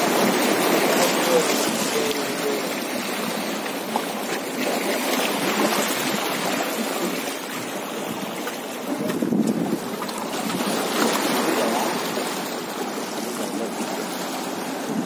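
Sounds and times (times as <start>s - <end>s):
sea water washing against rocks: 0.0s - 15.0s.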